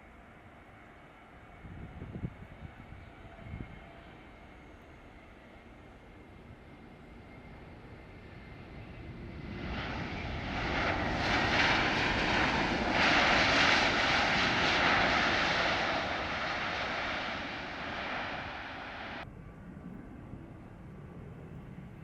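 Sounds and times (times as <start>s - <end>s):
airliner engines passing: 0.7s - 22.0s.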